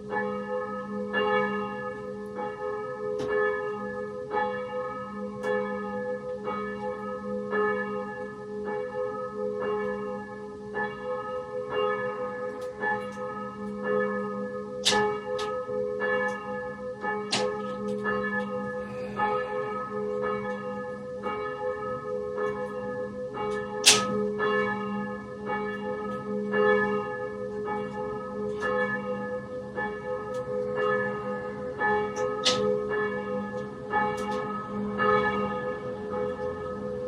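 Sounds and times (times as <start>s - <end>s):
church bells ringing: 0.0s - 37.0s.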